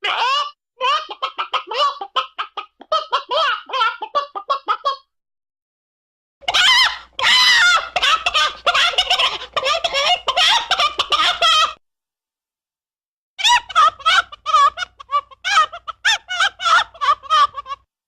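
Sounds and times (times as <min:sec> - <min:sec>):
chickens clucking and squawking: 0:00.1 - 0:05.1, 0:06.4 - 0:11.8, 0:13.4 - 0:17.9.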